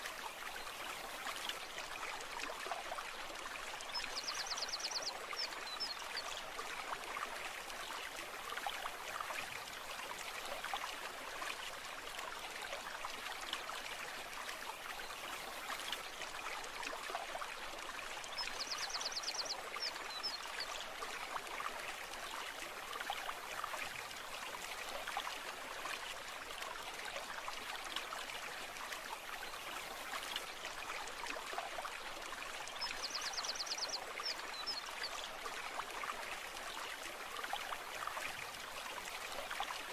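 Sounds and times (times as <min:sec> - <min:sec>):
stream water over stones: 0:00.0 - 0:39.9.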